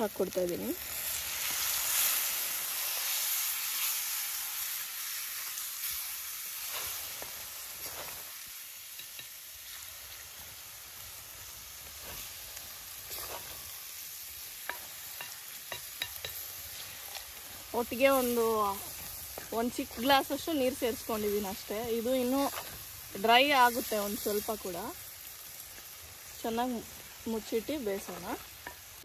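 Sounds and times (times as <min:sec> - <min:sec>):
food sizzling in a hot pan: 0:00.0 - 0:29.0.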